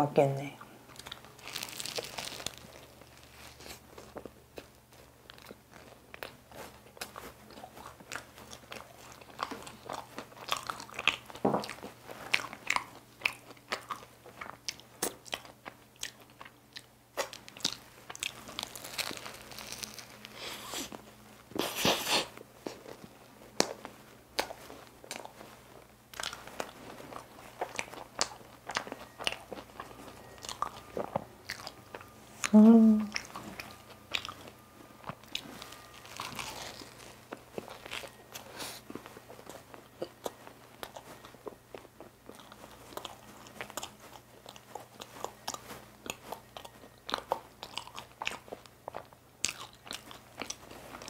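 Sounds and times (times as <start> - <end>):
crisp pastry crunching: 0.9 - 51.0
wet chewing mouth sounds: 0.9 - 51.0.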